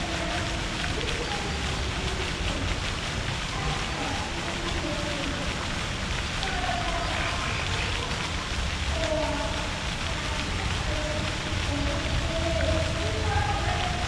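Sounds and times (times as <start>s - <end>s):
faint distant voices: 0.0s - 14.0s
steady rushing noise: 0.0s - 14.0s.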